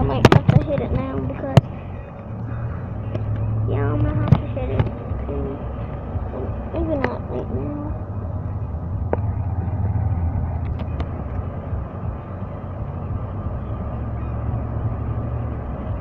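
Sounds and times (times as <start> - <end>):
road noise: 0.0 - 16.0
truck engine rumble: 0.0 - 16.0.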